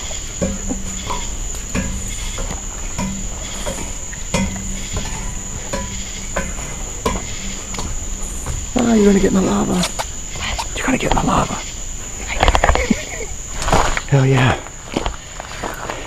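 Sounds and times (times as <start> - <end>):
footsteps on trail: 0.0 - 16.0
night insects chorus: 0.0 - 16.0.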